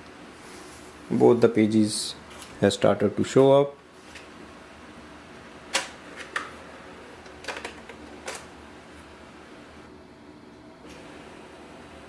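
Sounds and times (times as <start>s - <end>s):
faint motor hum: 0.0s - 12.0s.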